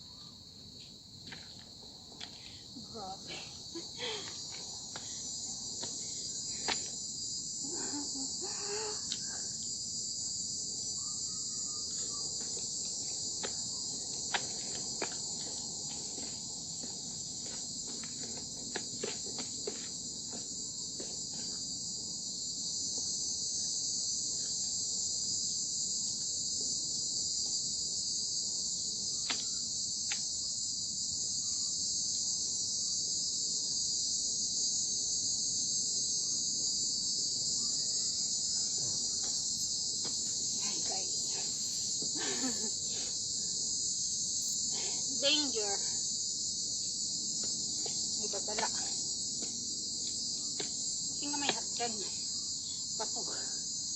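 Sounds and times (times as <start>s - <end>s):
insects buzzing: 0.0s - 53.9s.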